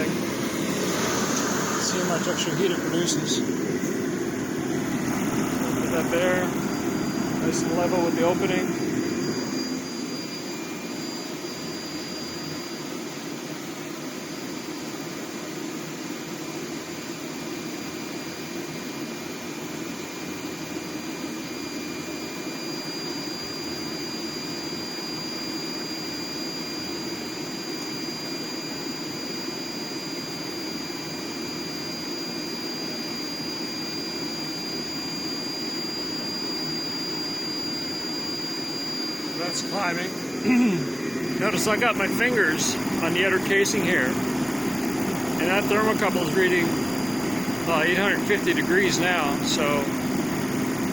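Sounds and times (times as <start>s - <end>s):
propane heater burner rushing: 0.0s - 50.9s.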